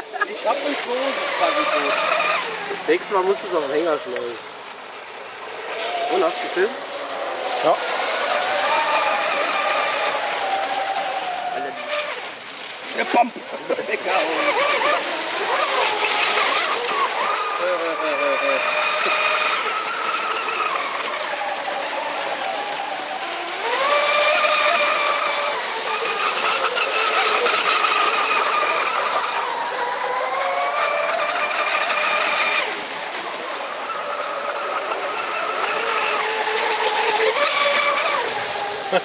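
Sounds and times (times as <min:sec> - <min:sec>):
high motor whine: 0:00.0 - 0:39.0
hulls hissing through water: 0:00.0 - 0:39.0.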